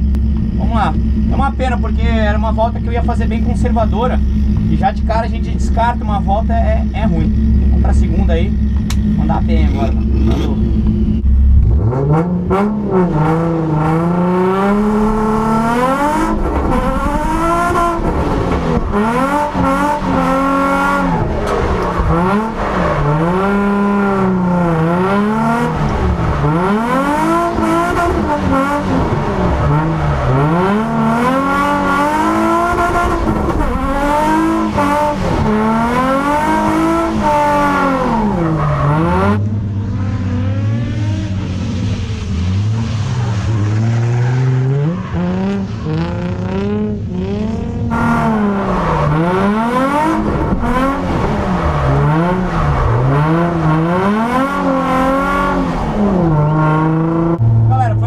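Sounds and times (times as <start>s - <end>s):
car engine revving hard: 6.9s - 57.7s.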